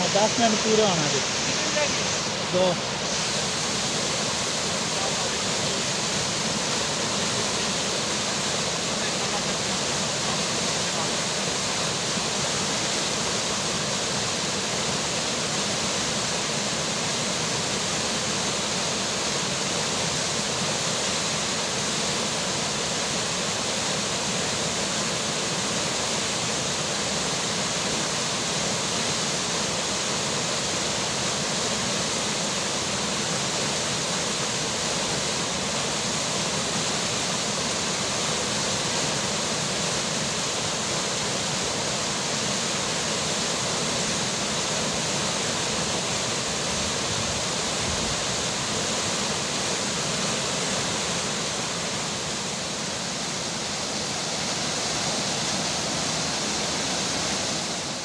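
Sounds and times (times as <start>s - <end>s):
rainfall: 0.0s - 58.0s
river water rushing: 0.0s - 58.0s.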